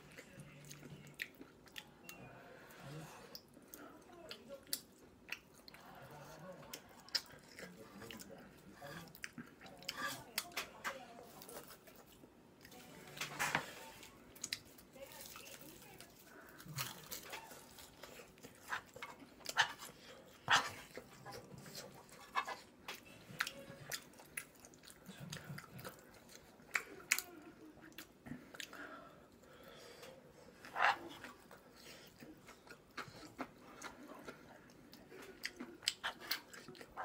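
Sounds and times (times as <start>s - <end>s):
chewing and mouth smacking: 0.1s - 2.2s, 3.2s - 10.6s, 14.3s - 37.0s.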